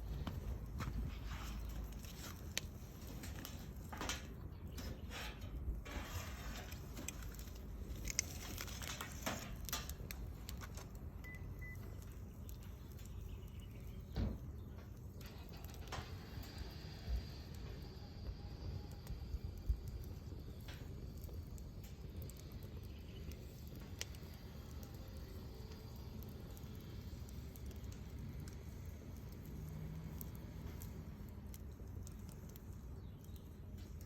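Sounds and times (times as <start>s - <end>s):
bonfire crackling: 0.0s - 34.0s
fire low rumble: 0.0s - 34.0s.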